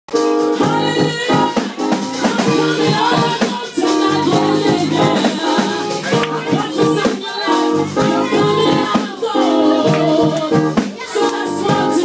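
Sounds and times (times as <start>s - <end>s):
band playing praise music: 0.1s - 12.0s
steady percussion: 0.1s - 12.0s
voices singing: 0.5s - 12.0s.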